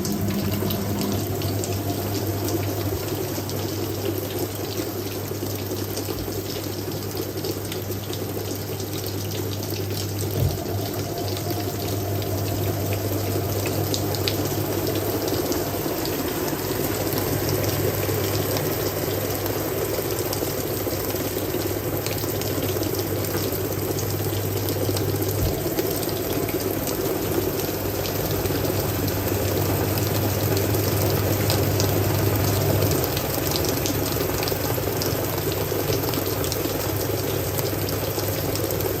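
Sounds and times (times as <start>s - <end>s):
washing machine motor hum: 0.0s - 39.0s
water rushing in washing machine: 0.0s - 39.0s.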